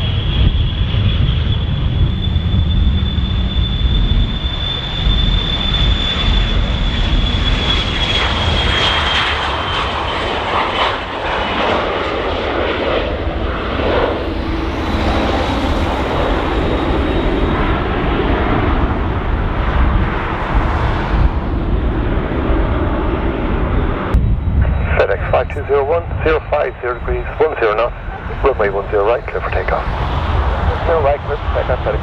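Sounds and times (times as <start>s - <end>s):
jet engine whine: 0.0s - 32.0s
jet roar and rumble: 0.0s - 32.0s.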